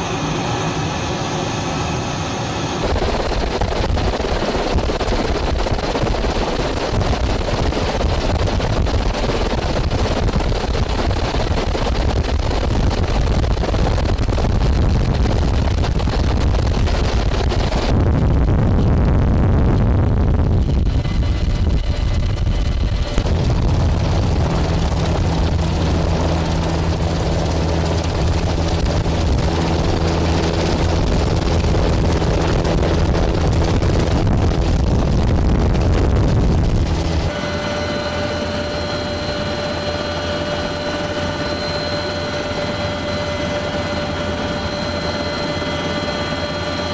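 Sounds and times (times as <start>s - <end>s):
helicopter rotor and engine: 0.0s - 46.9s
high whine: 0.0s - 46.9s.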